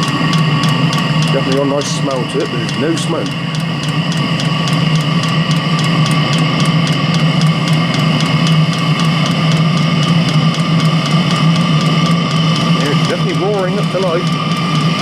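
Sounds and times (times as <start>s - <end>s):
fuel pump ticking: 0.0s - 15.0s
heater fan hum: 0.0s - 15.0s.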